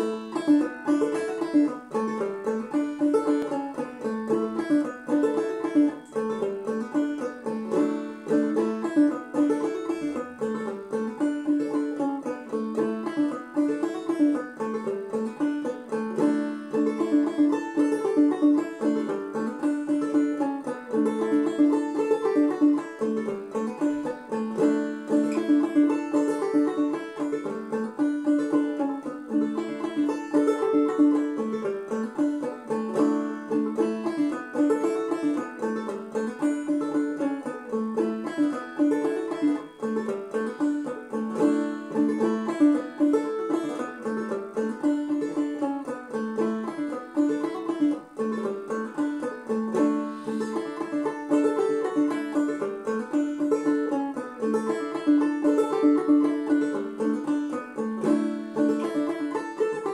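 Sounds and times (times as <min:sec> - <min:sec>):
banjo plucked notes: 0:00.0 - 0:59.9.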